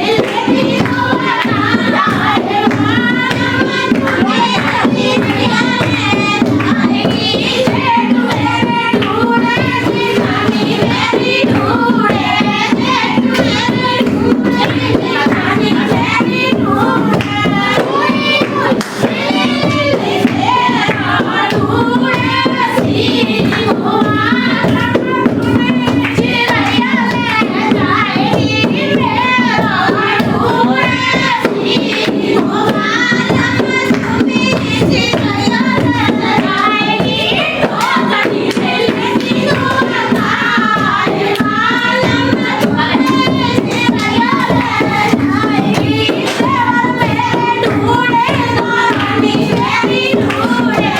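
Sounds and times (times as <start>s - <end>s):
rhythmic percussion: 0.0s - 50.9s.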